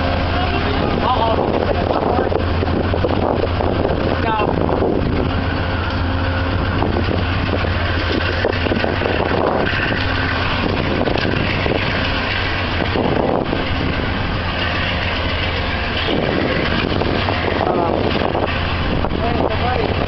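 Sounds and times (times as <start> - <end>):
train rumbling and humming: 0.0 - 20.0.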